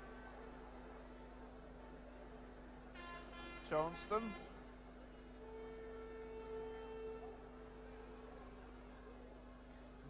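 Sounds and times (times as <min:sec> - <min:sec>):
faint stadium crowd noise: 0:00.0 - 0:10.0
steady electrical hum: 0:00.0 - 0:10.0.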